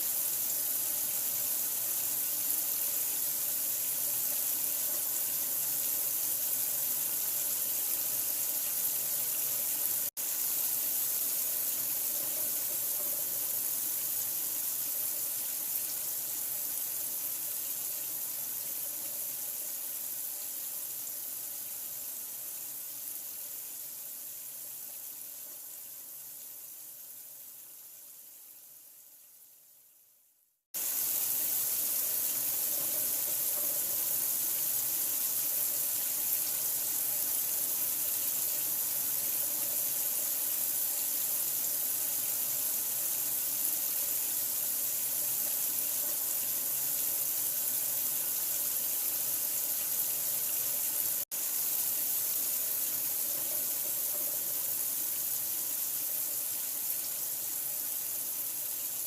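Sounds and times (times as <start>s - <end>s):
running water: 0.0s - 28.4s, 30.8s - 59.0s.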